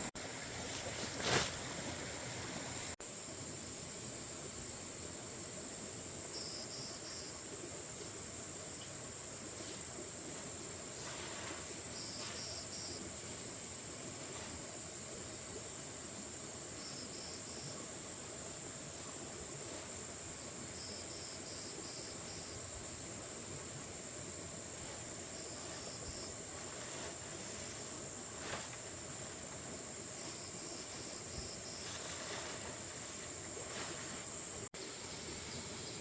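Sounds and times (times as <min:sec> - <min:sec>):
insect chorus: 0:00.2 - 0:36.0.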